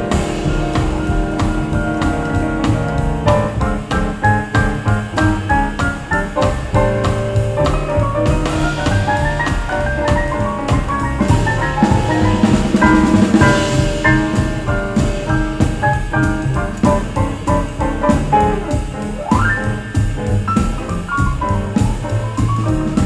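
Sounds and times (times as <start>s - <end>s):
drum kit: 0.0s - 23.0s
jazz piano: 0.0s - 23.0s.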